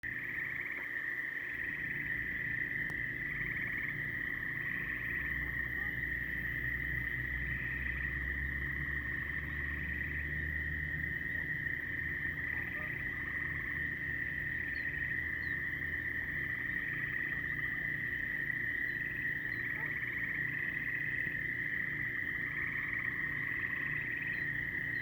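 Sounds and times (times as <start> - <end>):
frog chorus trilling: 0.0 - 25.0
pulsed frog trills: 0.0 - 25.0.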